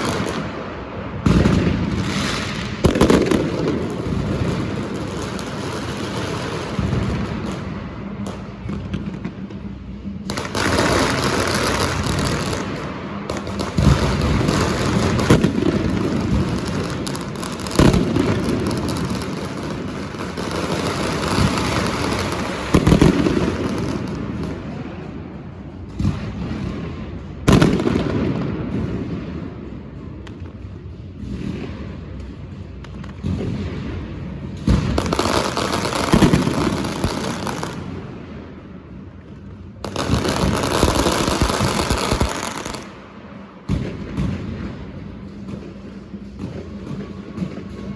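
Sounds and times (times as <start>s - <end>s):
fireworks booms: 0.0s - 47.9s
fireworks crackling: 0.0s - 47.9s.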